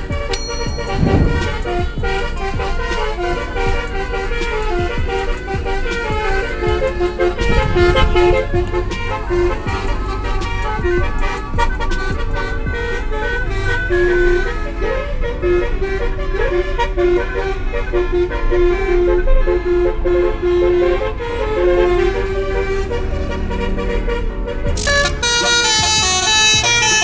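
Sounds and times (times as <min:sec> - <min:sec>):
tune of held notes: 0:00.0 - 0:23.0, 0:24.7 - 0:27.0
low vehicle rumble: 0:00.0 - 0:27.0.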